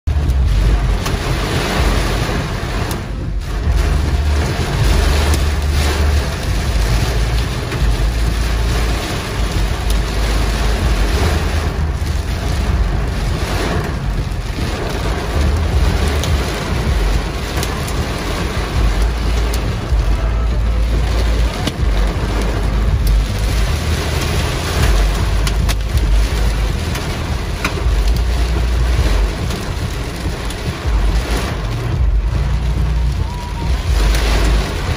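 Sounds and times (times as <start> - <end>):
deep rumble: 0.0 - 34.9
hail and rain on car roof: 0.1 - 34.9.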